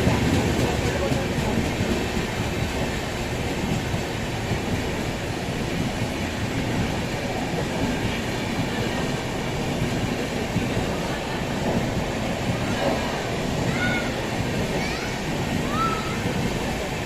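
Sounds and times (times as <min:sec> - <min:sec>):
train wheels rumbling: 0:00.0 - 0:17.0
wheels clattering over track: 0:00.0 - 0:17.0.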